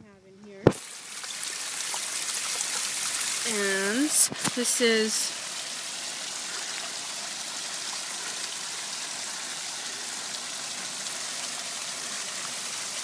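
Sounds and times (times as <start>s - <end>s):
waterfall splashing into pond: 0.6s - 13.0s.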